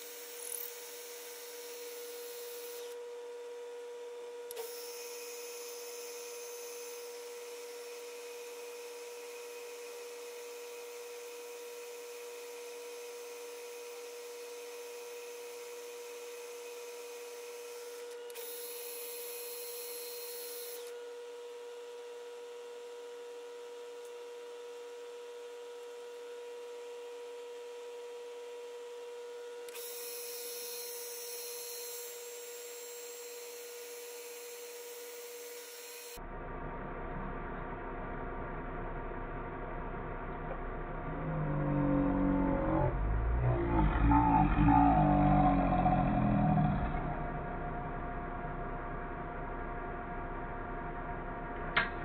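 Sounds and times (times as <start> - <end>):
lathe motor whine: 0.0 - 23.8, 29.7 - 51.9.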